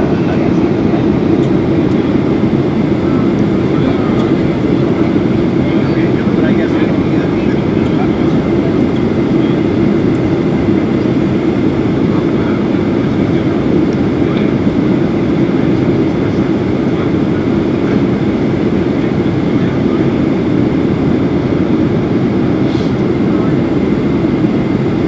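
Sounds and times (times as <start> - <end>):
airplane cabin roar: 0.0 - 25.0.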